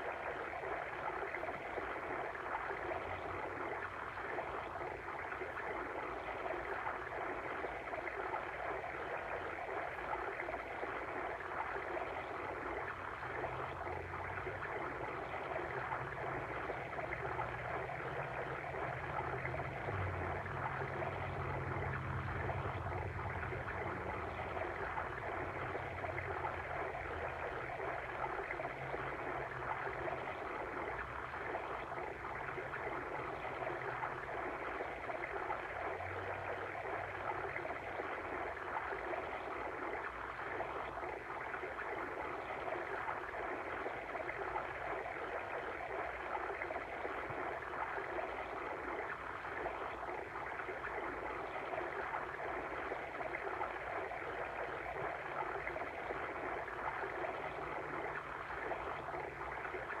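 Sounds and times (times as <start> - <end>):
stream babbling: 7.8 - 60.0.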